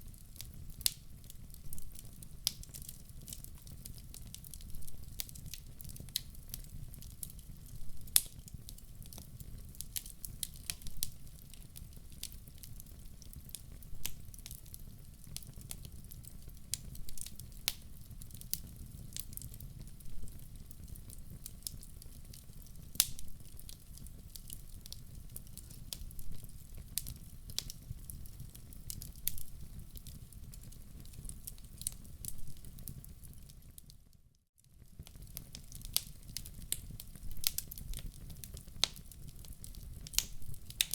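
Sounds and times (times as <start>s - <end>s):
low rumble of flames: 0.0s - 33.8s, 34.8s - 40.9s
wood fire crackling: 0.0s - 40.9s.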